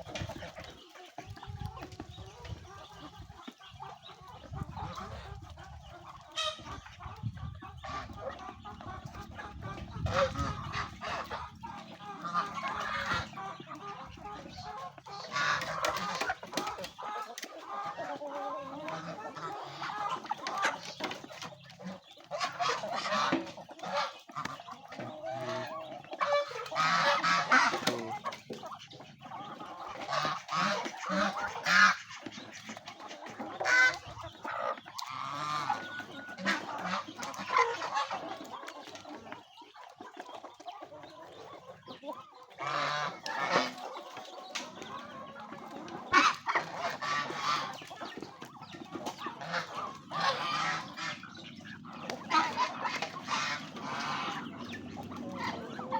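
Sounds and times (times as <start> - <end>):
chickens and ducks calling: 0.0 - 55.9
geese honking: 0.0 - 55.9.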